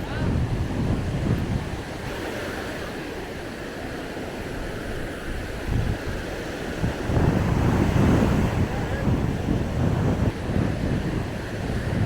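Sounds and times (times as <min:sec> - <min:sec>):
waves washing on sand: 0:00.0 - 0:12.0
wind: 0:00.0 - 0:12.0
wind buffeting microphone: 0:00.0 - 0:12.0.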